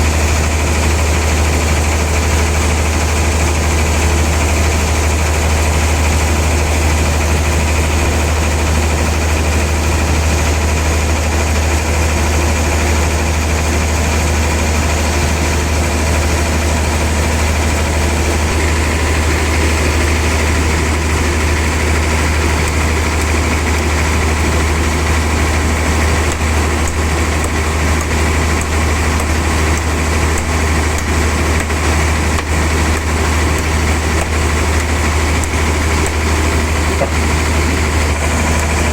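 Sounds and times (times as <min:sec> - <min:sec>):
sawmill saw droning: 0:00.0 - 0:38.9.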